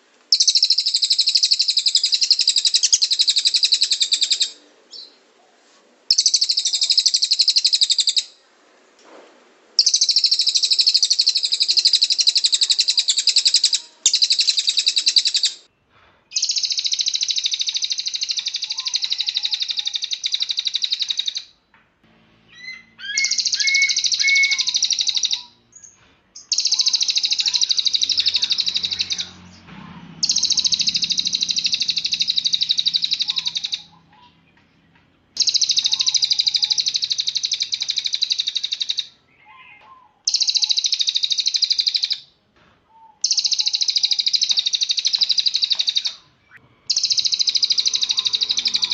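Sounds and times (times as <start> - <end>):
bird singing high-pitched trills: 0.3 - 5.1, 6.1 - 8.4, 9.8 - 15.7, 16.4 - 21.5, 22.5 - 29.4, 30.2 - 34.4, 35.4 - 42.3, 43.2 - 48.9.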